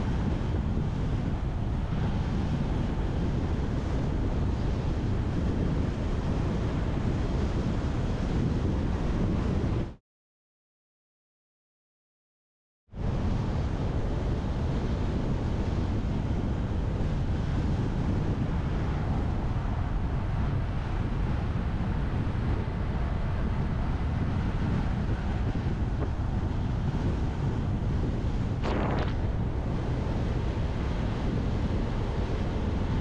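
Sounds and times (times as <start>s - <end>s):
wind buffeting the microphone: 0.0s - 10.0s, 12.9s - 33.0s.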